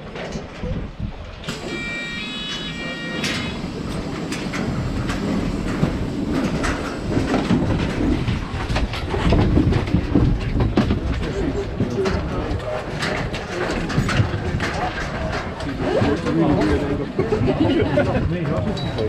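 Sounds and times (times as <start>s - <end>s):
ski-lift car rumbling and clattering: 0.0s - 19.0s.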